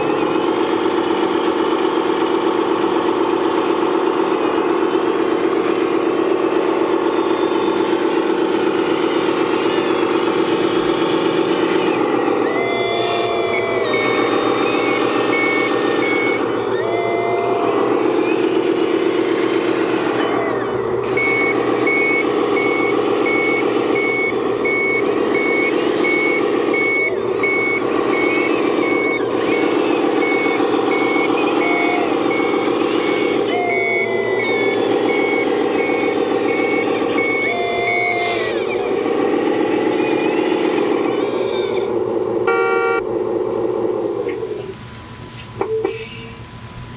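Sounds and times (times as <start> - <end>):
reversing beeper: 0.0 - 46.4
model motors humming: 0.0 - 46.9.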